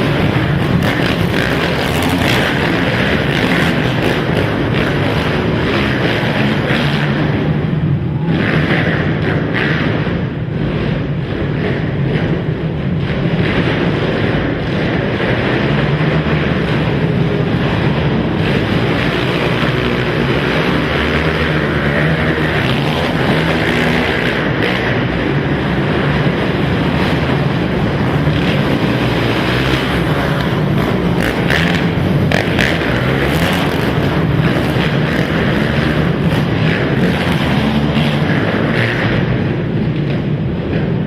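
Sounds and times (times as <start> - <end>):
quad racing engines revving: 0.0 - 41.0.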